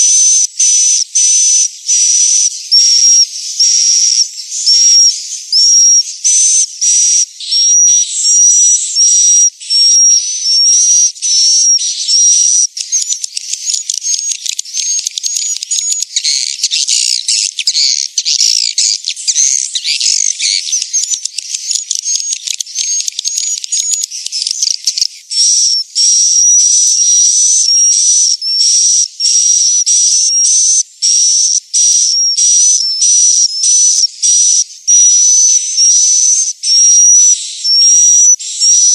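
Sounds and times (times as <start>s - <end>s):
high twittering bird chirps: 0.0s - 38.9s.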